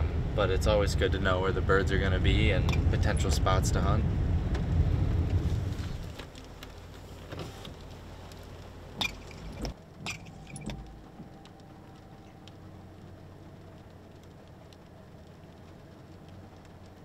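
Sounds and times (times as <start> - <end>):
vehicle cabin rumble: 0.0 - 17.0.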